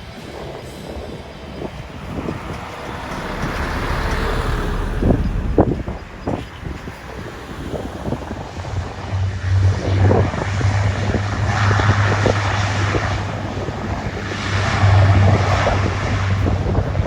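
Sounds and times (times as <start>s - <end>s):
jet airliner engines: 0.0s - 17.0s
wind buffeting microphone: 0.0s - 17.0s.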